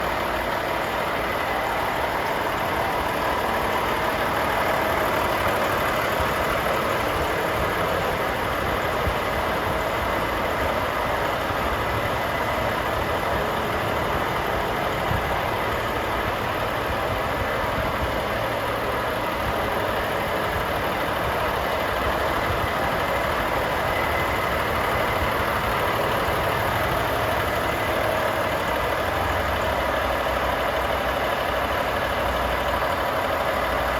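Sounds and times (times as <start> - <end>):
diesel truck idling: 0.0 - 33.9.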